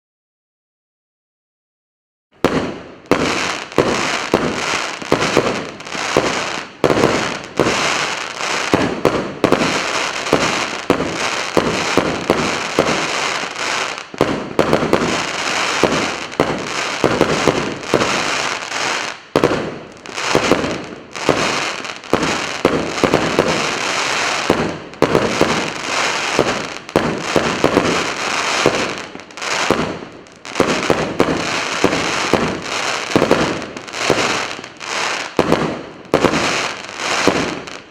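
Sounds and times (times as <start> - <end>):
fireworks launching and bursting: 2.4 - 37.9.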